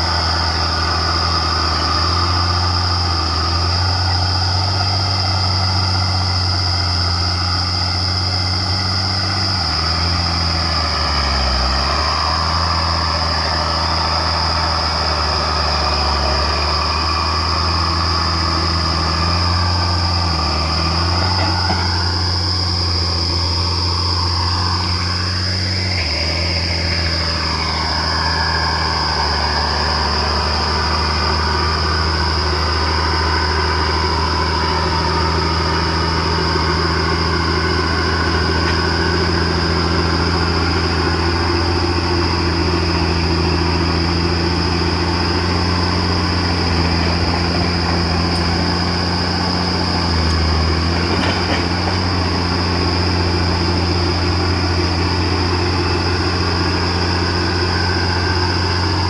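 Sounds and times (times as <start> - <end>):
bulldozer diesel engine droning: 0.0 - 59.0.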